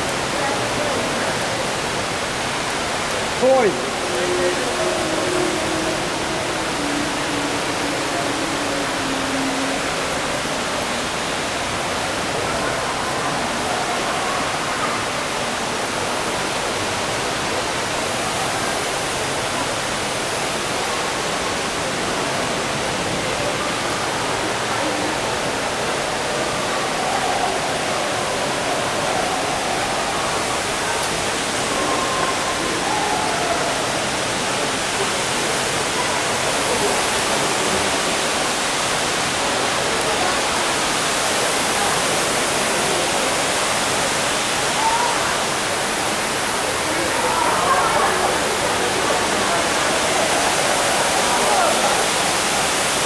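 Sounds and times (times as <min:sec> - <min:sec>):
indoor waterfall rushing: 0:00.0 - 0:53.0.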